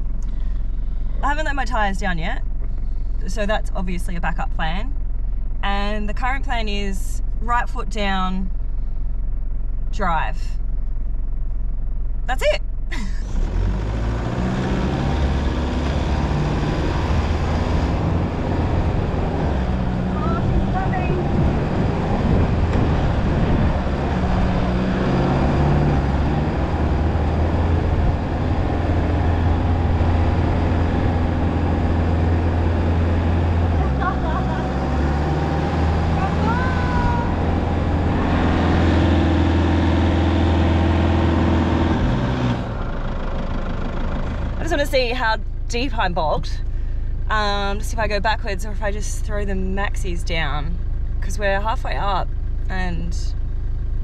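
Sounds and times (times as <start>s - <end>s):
engine droning under full throttle: 0.0s - 54.0s.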